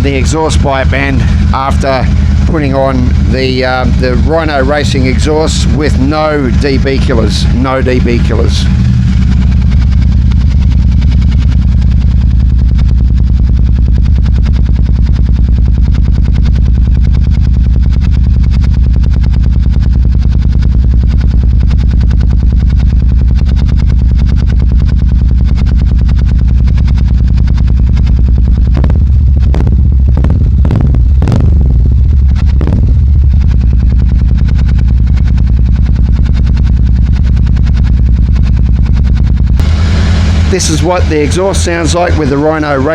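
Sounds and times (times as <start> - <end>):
throttle blips: 0.0 - 42.7
motorcycle engine idling: 0.0 - 42.9.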